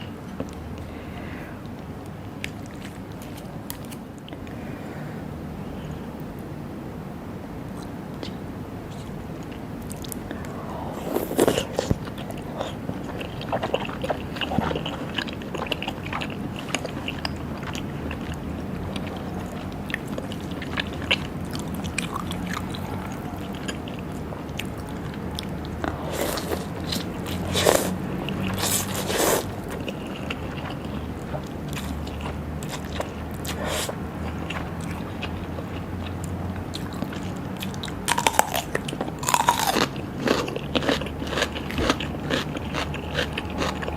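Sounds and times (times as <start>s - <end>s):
low steady hum: 0.0s - 43.9s
chewing and biting: 2.3s - 4.5s, 7.8s - 43.9s.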